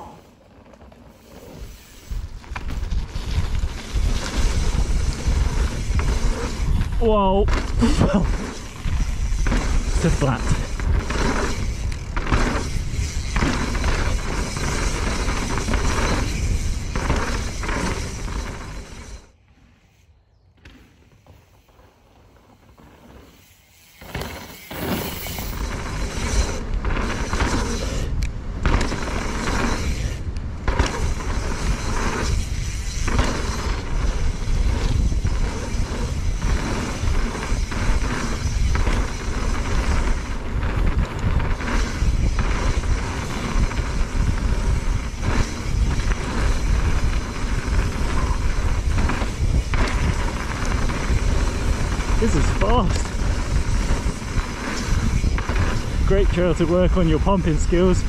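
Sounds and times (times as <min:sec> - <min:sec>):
tyres on dirt: 0:00.0 - 0:58.0
bike knocks and rattles: 0:00.5 - 0:10.0, 0:10.6 - 0:19.1, 0:24.0 - 0:28.0, 0:28.6 - 0:57.7
wind on microphone: 0:01.6 - 0:19.1, 0:24.9 - 0:58.0.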